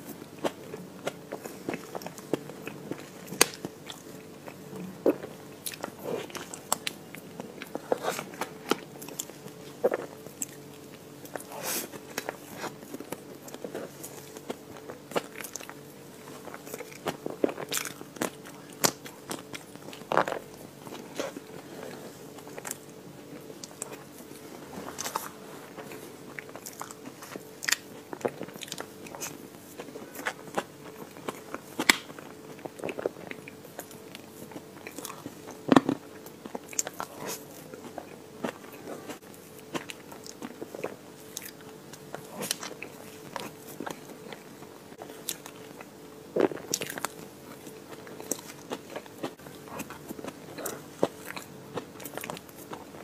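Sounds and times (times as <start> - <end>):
crunchy biting and chewing: 0.0 - 53.0
faint steady hum: 0.0 - 53.0.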